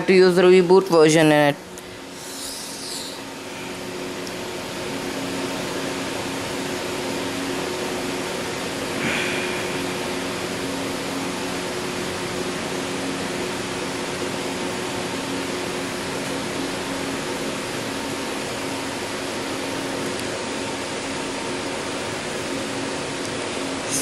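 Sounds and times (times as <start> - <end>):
mechanical whir with low hum: 0.0 - 24.0.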